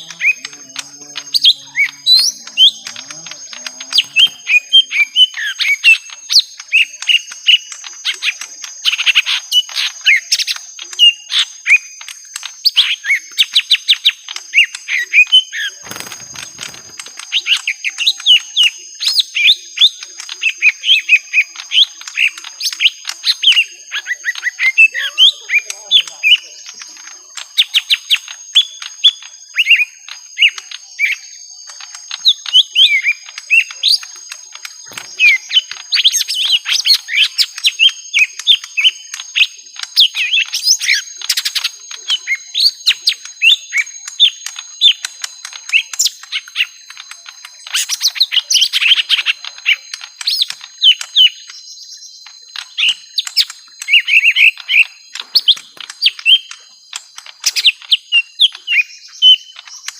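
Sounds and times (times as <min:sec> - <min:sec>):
birds chirping and whistling: 0:00.0 - 0:59.9.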